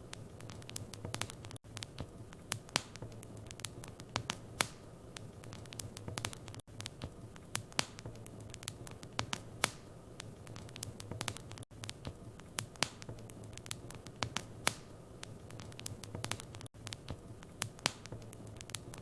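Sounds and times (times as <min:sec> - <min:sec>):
sharp pops and snaps: 0:00.0 - 0:19.0
soft hiss: 0:00.0 - 0:19.0
wood fire crackling: 0:00.0 - 0:19.0.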